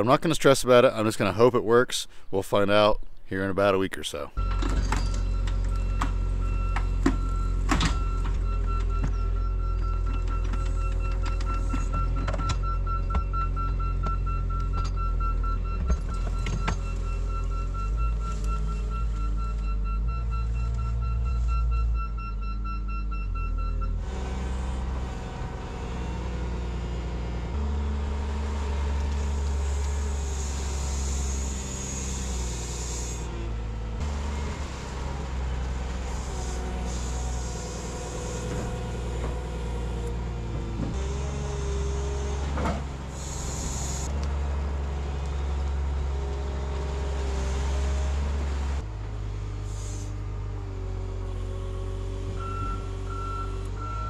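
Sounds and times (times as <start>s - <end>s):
heavy loader engine: 4.3s - 54.0s
whining hydraulics: 4.4s - 54.0s.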